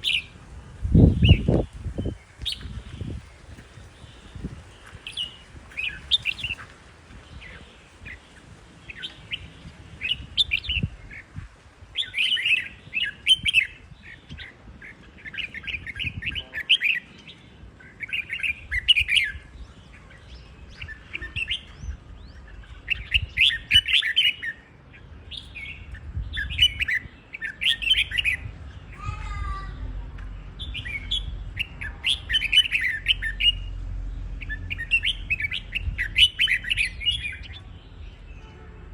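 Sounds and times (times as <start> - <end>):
birds singing chirpy song: 0.0 - 38.9.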